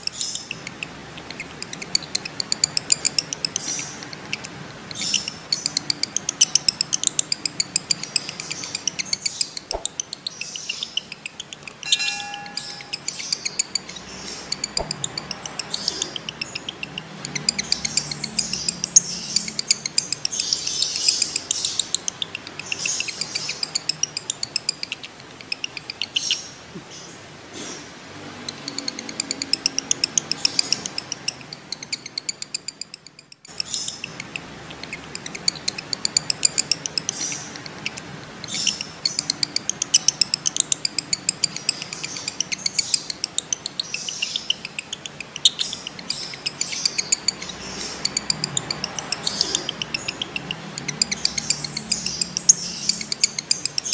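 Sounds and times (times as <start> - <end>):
lovebird chattering trill: 0.0 - 26.6, 28.4 - 53.9.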